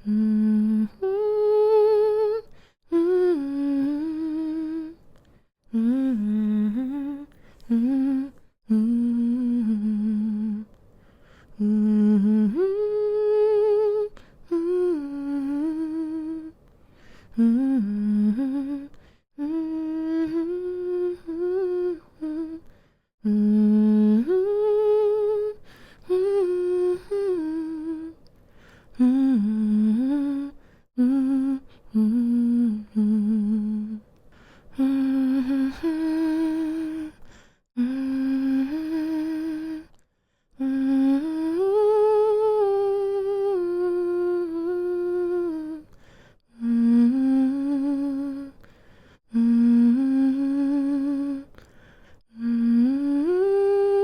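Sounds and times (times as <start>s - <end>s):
woman humming a soothing melody: 0.0s - 10.8s, 11.5s - 16.6s, 17.3s - 28.3s, 28.9s - 34.1s, 34.7s - 40.0s, 40.6s - 48.7s, 49.3s - 51.7s, 52.3s - 54.0s.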